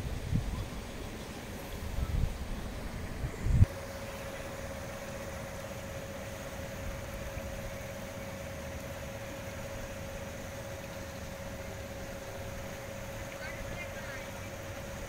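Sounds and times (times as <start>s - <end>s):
mechanical hum with steady tone: 0.0s - 15.0s.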